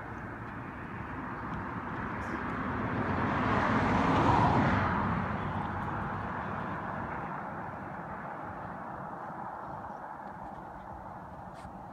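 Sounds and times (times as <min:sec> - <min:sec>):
vehicle passing by: 0:00.4 - 0:11.7.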